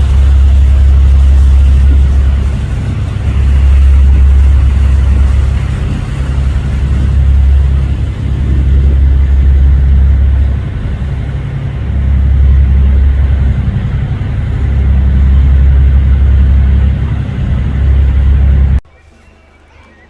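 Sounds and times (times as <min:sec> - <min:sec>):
car low rumble: 0:00.0 - 0:18.8.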